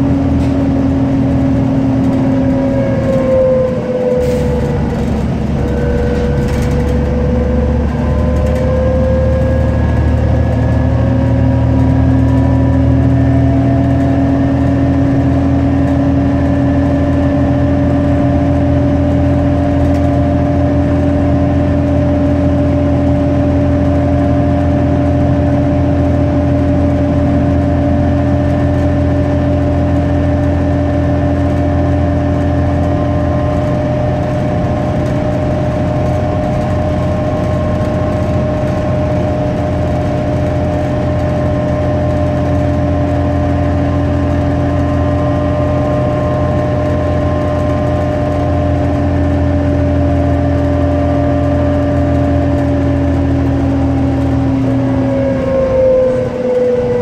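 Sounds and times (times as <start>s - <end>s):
bus engine drone: 0.0s - 57.0s
steady whine: 0.0s - 57.0s.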